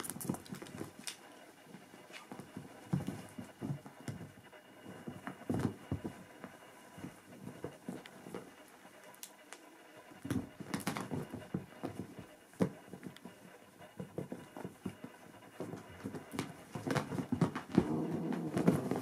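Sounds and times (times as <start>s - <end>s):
kittens thumping and scuffling: 0.0s - 9.3s, 10.1s - 19.0s.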